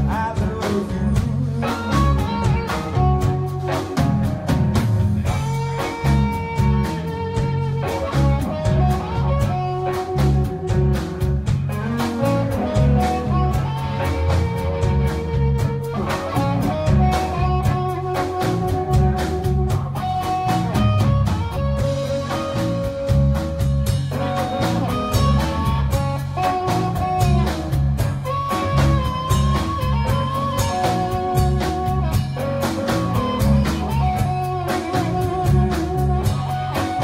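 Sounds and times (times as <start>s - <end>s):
live blues band playing: 0.0s - 37.0s.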